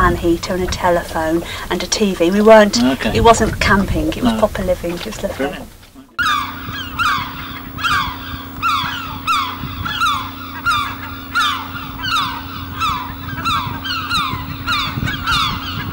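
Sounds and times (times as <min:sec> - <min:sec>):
steady low hum: 0:00.0 - 0:15.9
birds calling: 0:00.6 - 0:15.9.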